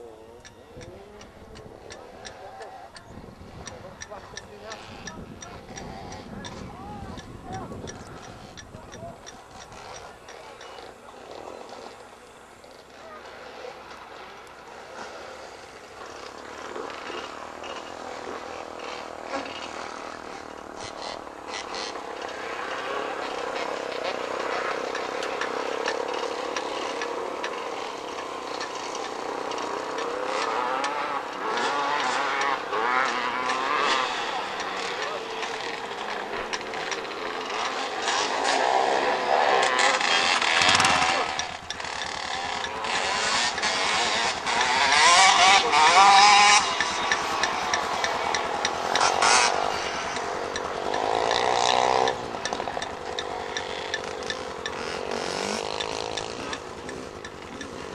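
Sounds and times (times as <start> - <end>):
off-road vehicle engines droning: 0.0 - 57.9.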